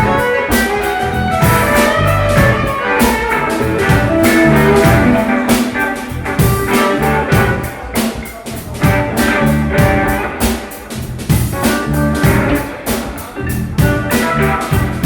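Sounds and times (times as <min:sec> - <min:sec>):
drum kit beat: 0:00.0 - 0:15.0
electric guitar: 0:00.0 - 0:15.0.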